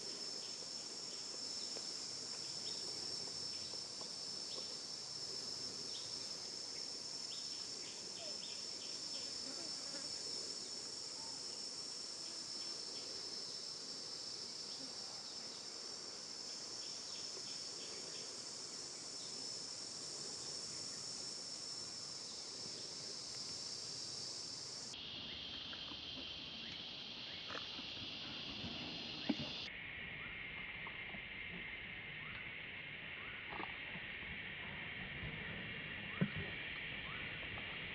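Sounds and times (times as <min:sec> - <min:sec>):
insects trilling: 0:00.0 - 0:37.5
low insect drone: 0:00.0 - 0:37.9.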